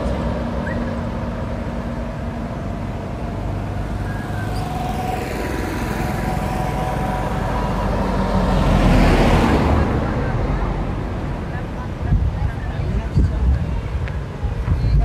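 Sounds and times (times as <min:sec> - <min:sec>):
minibus engine rumble: 0:00.0 - 0:15.0
road traffic: 0:00.0 - 0:15.0.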